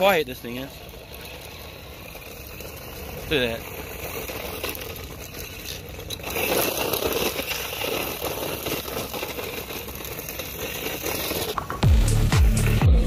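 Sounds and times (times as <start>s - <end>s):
quiet electric motors: 0.0s - 11.6s
tyres crunching on gravel: 0.0s - 12.9s.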